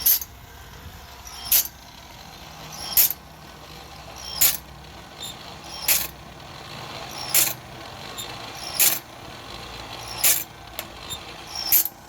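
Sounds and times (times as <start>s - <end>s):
grinding wheel grinding: 0.0s - 12.0s
motor hum: 0.0s - 12.0s.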